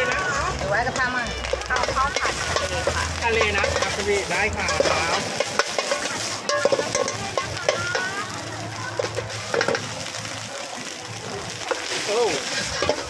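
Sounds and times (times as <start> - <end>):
metal ladle scraping a wok: 0.0 - 10.2, 11.5 - 13.0
egg sizzling in a wok: 0.0 - 13.0.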